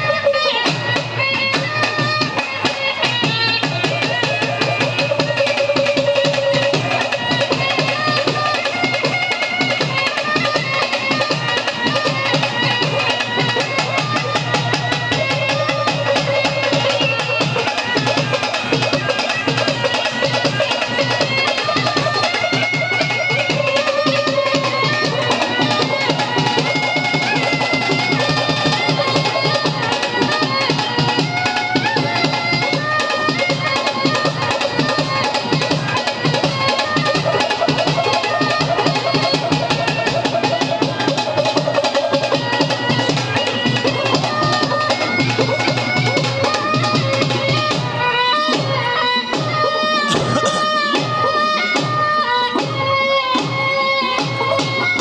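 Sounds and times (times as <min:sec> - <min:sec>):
music with fast drumming: 0:00.6 - 0:52.0.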